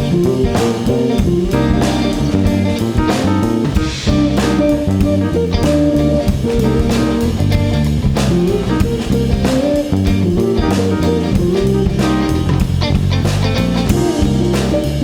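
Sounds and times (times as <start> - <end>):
bass: 0.0 - 15.0
drum kit: 0.0 - 15.0
guitar: 0.0 - 15.0.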